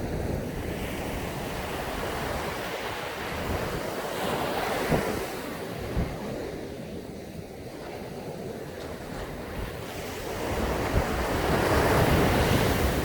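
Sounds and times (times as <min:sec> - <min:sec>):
waves breaking on sandy beach: 0:00.0 - 0:13.0
wind on microphone: 0:00.0 - 0:13.0.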